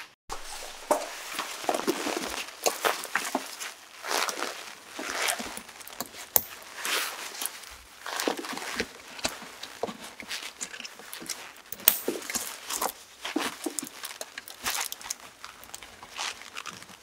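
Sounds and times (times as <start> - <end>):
cloth rustling: 0.3 - 16.4.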